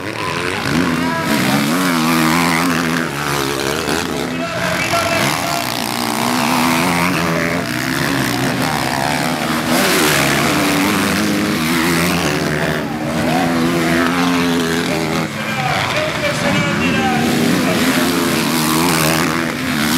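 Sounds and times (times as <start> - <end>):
motocross bikes revving: 0.0 - 19.9.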